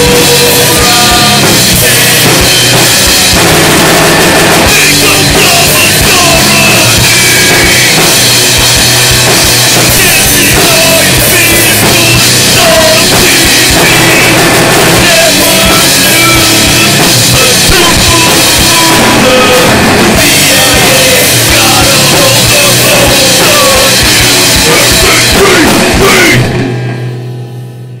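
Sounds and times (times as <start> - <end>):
loud rock music with drums: 0.0 - 28.0.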